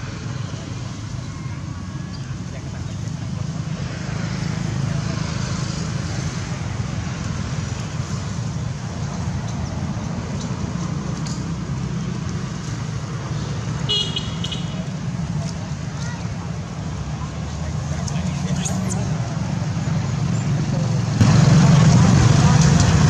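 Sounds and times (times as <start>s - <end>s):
distant road traffic rumble: 0.0s - 23.0s.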